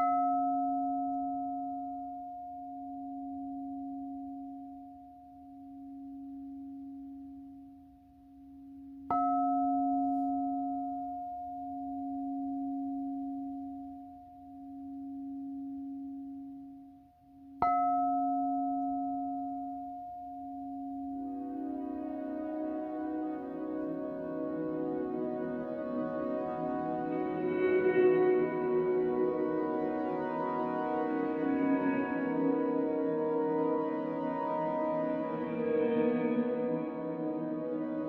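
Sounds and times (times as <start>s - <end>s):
singing bowl ringing: 0.0s - 38.0s.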